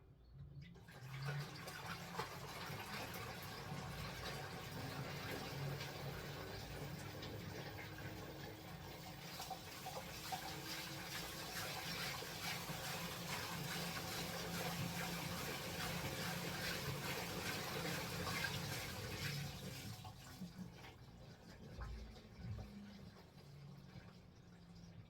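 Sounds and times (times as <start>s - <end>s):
water splashing in washing machine: 0.6s - 25.0s.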